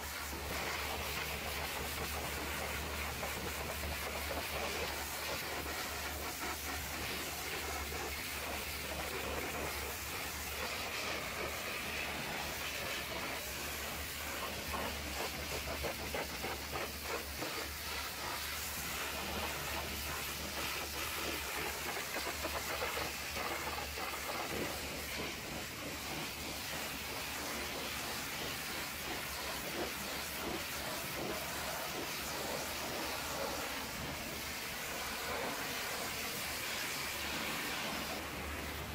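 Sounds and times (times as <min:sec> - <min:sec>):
pressure washer spraying water: 0:00.0 - 0:38.9.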